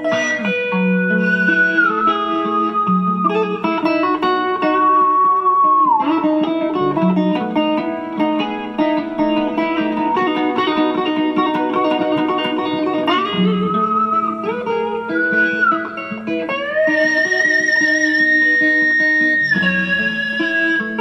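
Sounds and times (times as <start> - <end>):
electric guitar with effects: 0.0 - 21.0.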